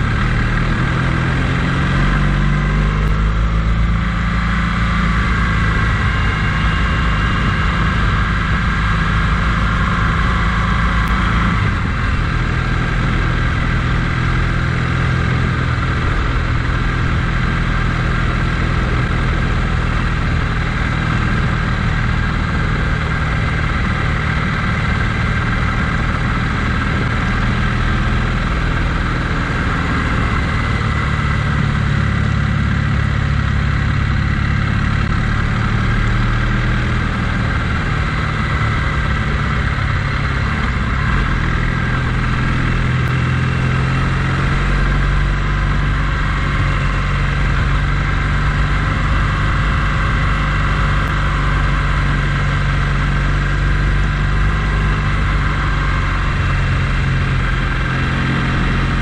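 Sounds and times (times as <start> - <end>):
vehicle engine drone: 0.0 - 59.0.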